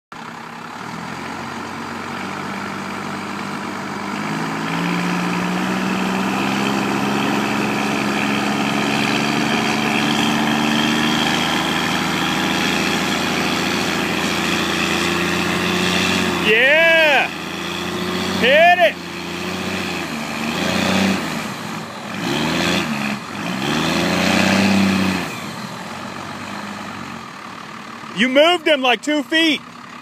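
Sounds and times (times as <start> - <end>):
pickup engine working under load: 0.1 - 30.0.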